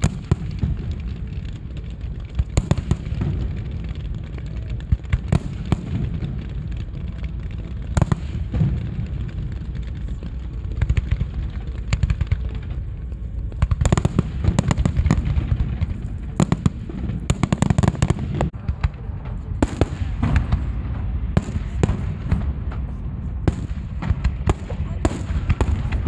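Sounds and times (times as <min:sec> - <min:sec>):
fireworks crackling bangs and pops: 0:00.0 - 0:26.0.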